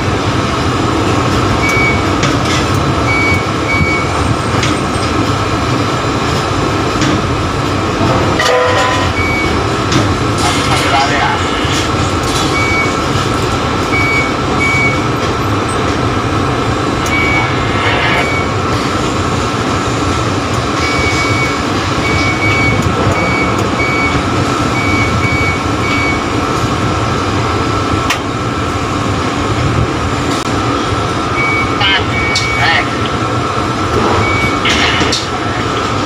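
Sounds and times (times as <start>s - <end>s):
crane machinery drone: 0.0s - 36.0s.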